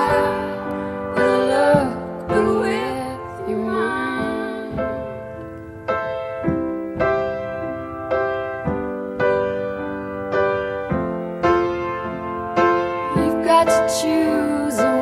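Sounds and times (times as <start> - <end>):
slow piano-like chords: 0.0 - 15.0.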